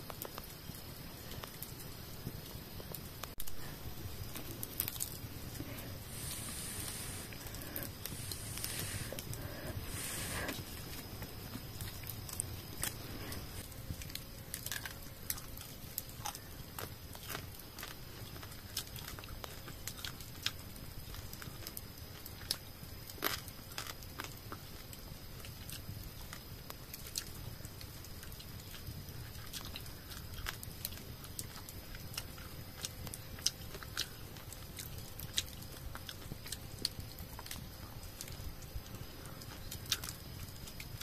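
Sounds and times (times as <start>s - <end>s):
person chewing meat: 3.3s - 22.6s, 23.2s - 24.6s, 28.2s - 41.0s.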